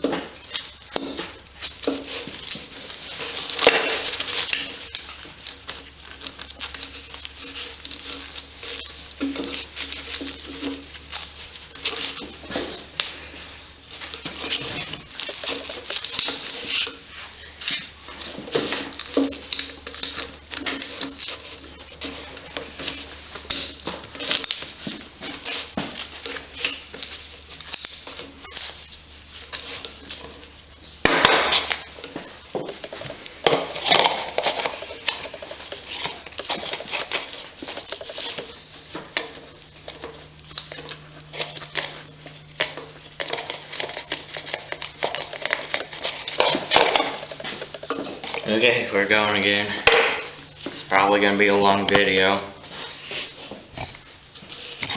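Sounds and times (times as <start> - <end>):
tools clicking and scraping: 0.0 - 51.1, 52.9 - 54.9.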